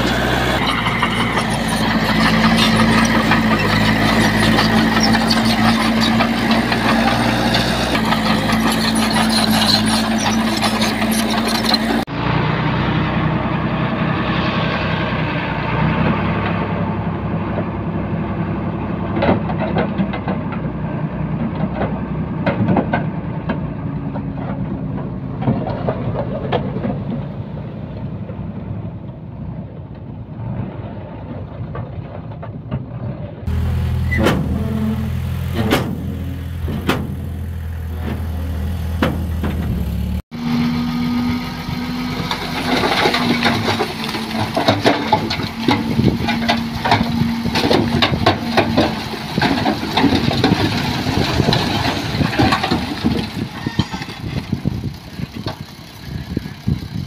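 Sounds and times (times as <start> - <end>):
heavy diesel machinery working: 0.0 - 57.0.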